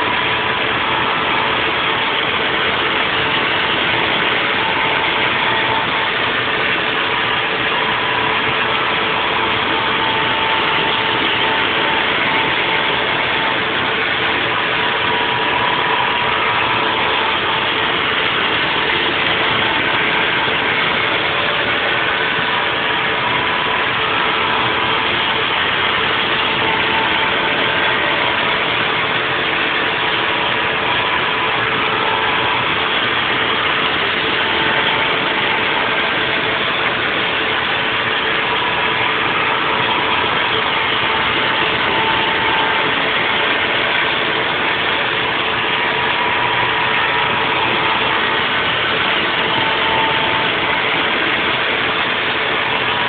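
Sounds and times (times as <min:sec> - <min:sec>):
faint machine whine: 0:00.0 - 0:53.0
milling machine running: 0:00.0 - 0:53.0.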